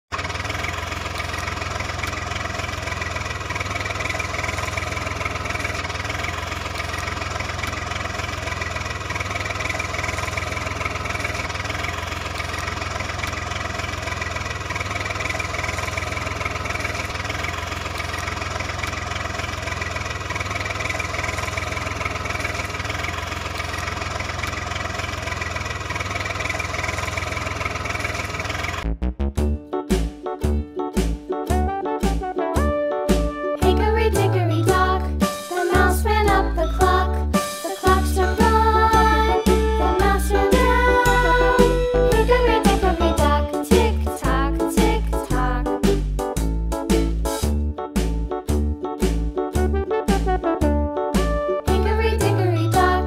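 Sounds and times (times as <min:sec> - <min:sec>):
tractor engine idling: 0:00.0 - 0:28.8, 0:33.1 - 0:50.4, 0:51.2 - 0:53.0.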